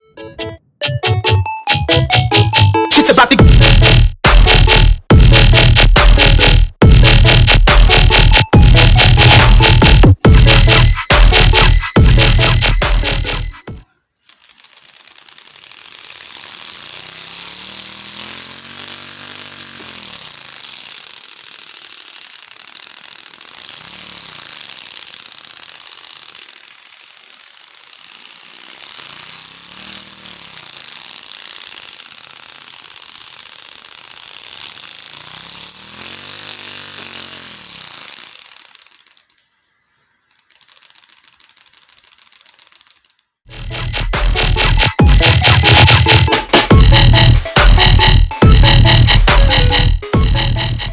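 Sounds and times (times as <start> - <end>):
paper flicking engine-like putter: 0.8 - 50.9.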